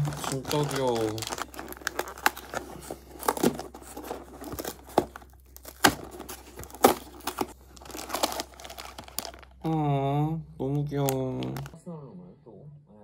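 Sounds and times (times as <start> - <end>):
plastic crinkling: 0.0 - 9.9, 10.7 - 11.8.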